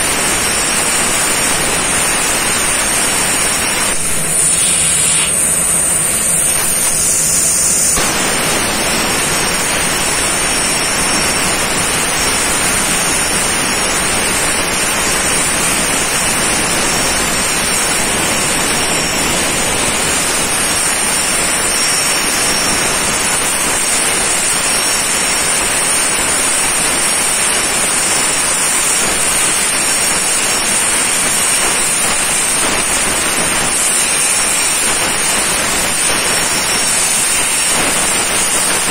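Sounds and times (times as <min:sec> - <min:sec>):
plasma torch hissing: 0:00.0 - 0:38.9
thin high whine: 0:00.0 - 0:38.9.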